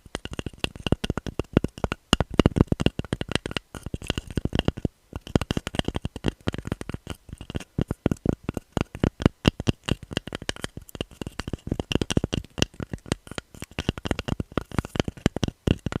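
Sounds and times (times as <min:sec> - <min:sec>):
fingernails tapping on hard object: 0:00.1 - 0:16.0.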